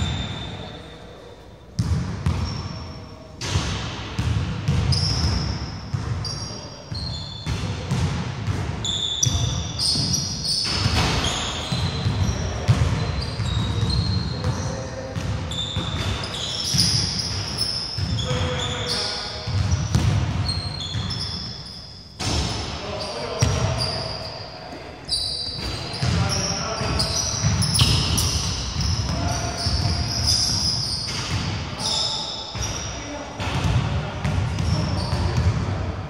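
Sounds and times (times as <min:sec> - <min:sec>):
sneakers squeaking: 0:00.0 - 0:35.7
players' voices: 0:06.2 - 0:36.0.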